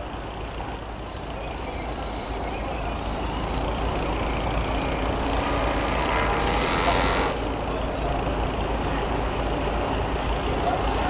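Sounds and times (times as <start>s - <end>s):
heavy vehicle engines running: 0.0s - 11.0s.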